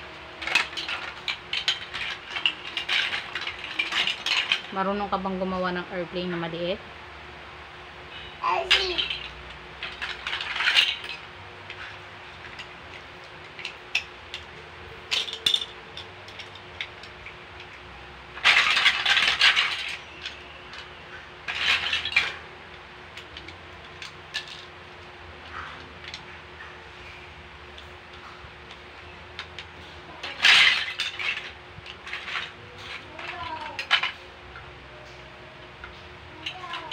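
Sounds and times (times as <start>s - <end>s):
plastic bricks clattering: 0.4s - 5.2s, 8.7s - 26.3s, 28.1s - 34.2s, 35.8s - 36.9s.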